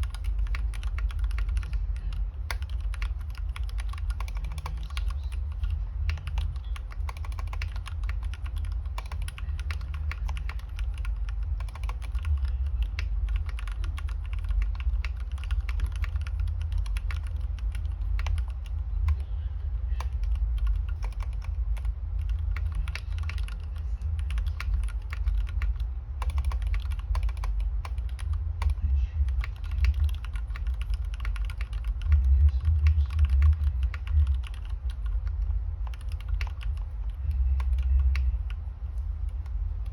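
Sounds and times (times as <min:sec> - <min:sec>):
mechanical keyboard typing: 0:00.0 - 0:39.9
steady low hum: 0:00.0 - 0:39.9.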